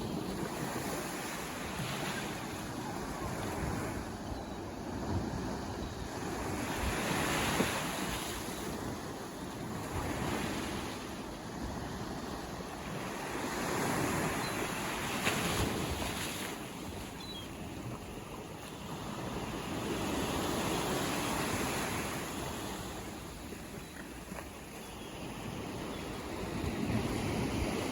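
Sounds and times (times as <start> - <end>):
ocean waves breaking: 0.0 - 27.9.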